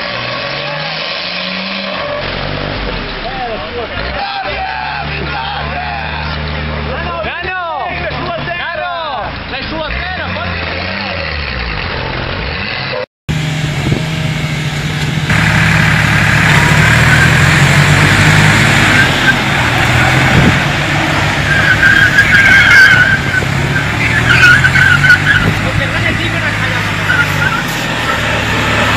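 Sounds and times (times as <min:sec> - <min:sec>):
engines running under load: 0:00.0 - 0:28.9.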